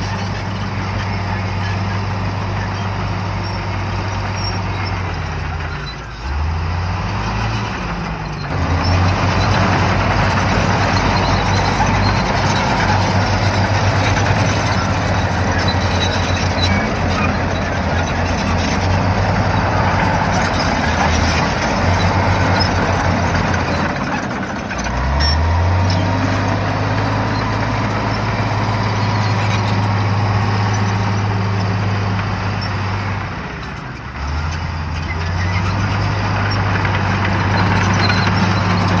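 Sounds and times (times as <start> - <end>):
bulldozer diesel engine under load: 0.0 - 39.0.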